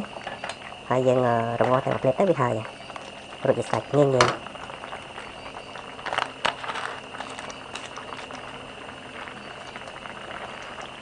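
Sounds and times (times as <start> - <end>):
broth boiling and popping: 0.0 - 11.0.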